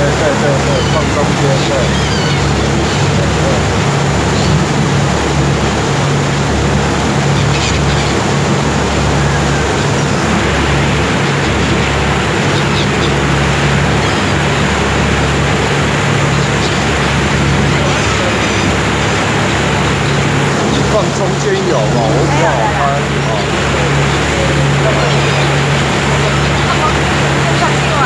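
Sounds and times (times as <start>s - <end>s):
boat engine running: 0.0s - 28.0s
gull calls: 0.0s - 28.0s
propeller wash rushing: 0.0s - 28.0s
wind: 0.0s - 28.0s.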